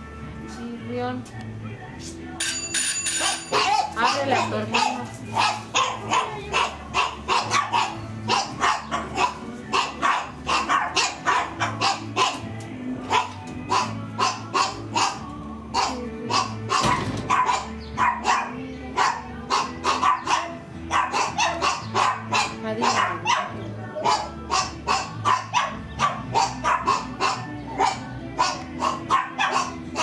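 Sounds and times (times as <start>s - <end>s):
music playing: 0.0s - 30.0s
dog barking: 3.2s - 12.5s, 13.1s - 30.0s.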